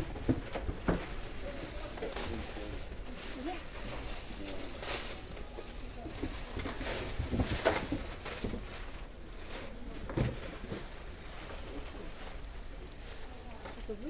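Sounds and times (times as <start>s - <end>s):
distant murmur of voices: 0.0s - 14.0s
handling knocks and rustles: 0.0s - 14.0s.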